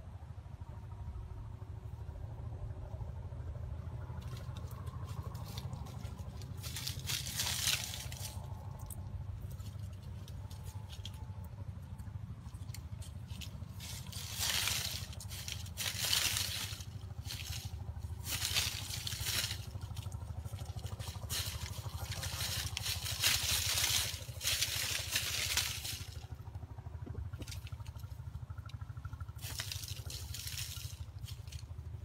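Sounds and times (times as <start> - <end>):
steady low rumble: 0.0 - 32.0
dry leaves rustling: 3.8 - 32.0.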